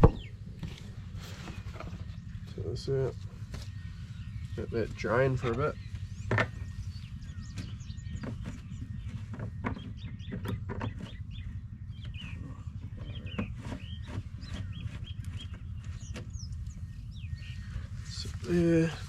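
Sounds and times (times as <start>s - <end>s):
low rumble: 0.0s - 19.0s
small birds chirping: 0.0s - 19.0s.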